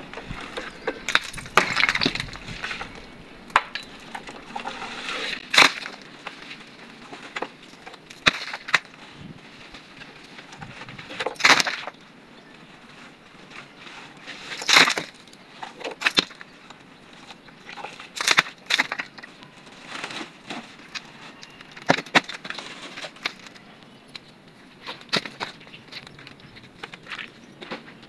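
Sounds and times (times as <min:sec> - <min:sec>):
rubble scraping and crunching: 0:00.0 - 0:28.0.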